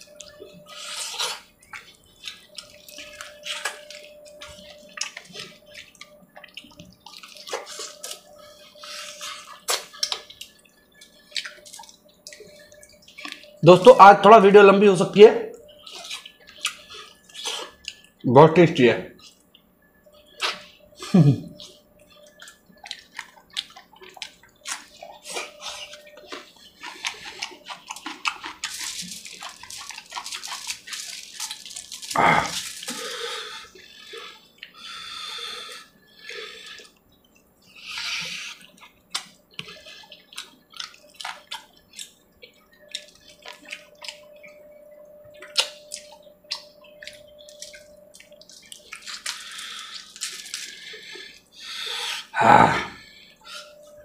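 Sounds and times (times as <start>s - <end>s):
man chewing with mouth clicks: 0.0s - 13.7s, 15.5s - 18.2s, 19.1s - 54.0s
slurping: 0.0s - 13.8s, 15.7s - 18.2s, 20.2s - 37.0s, 37.6s - 44.5s, 45.4s - 53.8s.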